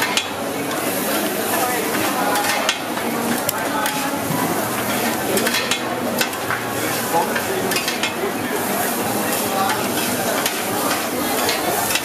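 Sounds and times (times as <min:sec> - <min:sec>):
food sizzling: 0:00.0 - 0:12.0
metal spatulas scraping on griddle: 0:00.0 - 0:12.0.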